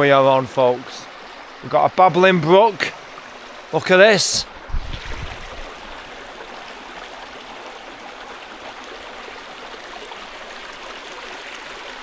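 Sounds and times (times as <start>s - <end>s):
brook babbling over stones: 0.0s - 12.0s.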